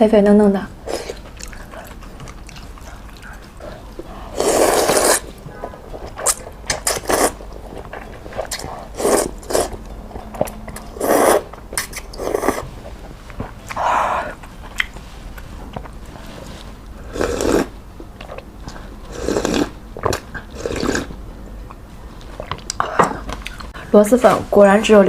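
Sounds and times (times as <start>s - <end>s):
person chewing food: 0.8s - 23.8s.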